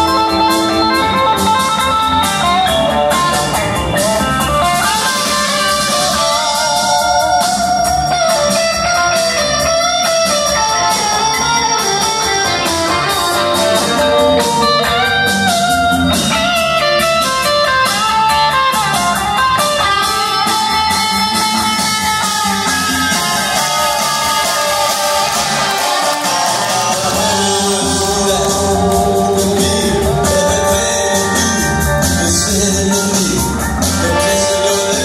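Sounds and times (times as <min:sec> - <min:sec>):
bass guitar: 0:00.0 - 0:35.0
electric guitar lead lines: 0:00.0 - 0:35.0
steady drum beat: 0:00.0 - 0:35.0.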